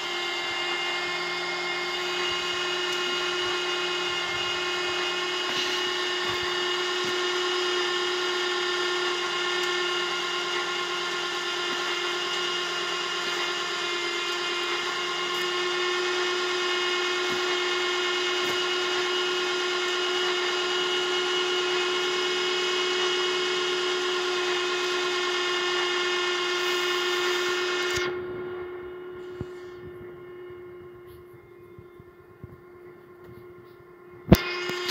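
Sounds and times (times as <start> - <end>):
electric winch motor whining: 0.0 - 32.6.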